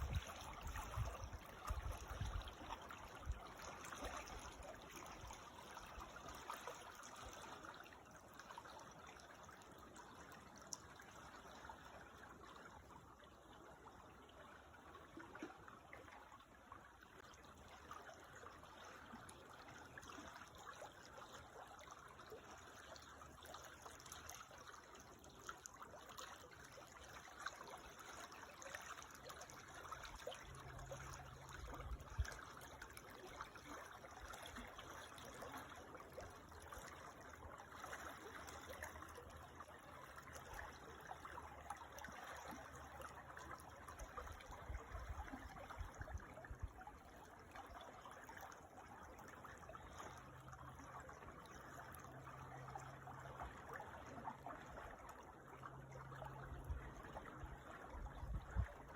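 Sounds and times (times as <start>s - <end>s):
creek water trickling: 0.0s - 58.9s.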